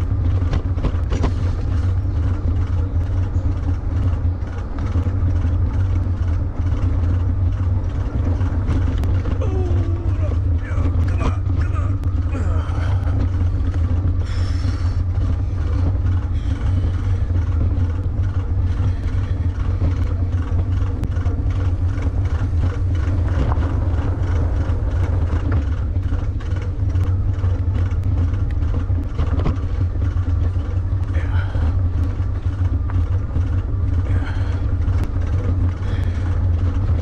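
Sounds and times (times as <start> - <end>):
bike riding rumble: 0.0 - 37.0
small clicks and rattles: 0.0 - 37.0.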